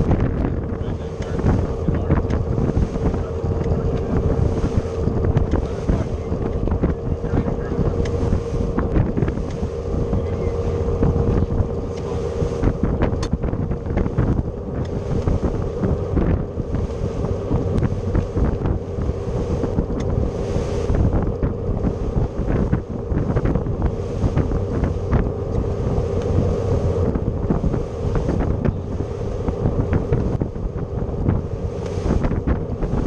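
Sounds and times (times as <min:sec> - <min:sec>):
boat engine running: 0:00.0 - 0:33.0
water splashing against hull: 0:00.0 - 0:33.0
wind buffeting microphone: 0:00.0 - 0:33.0.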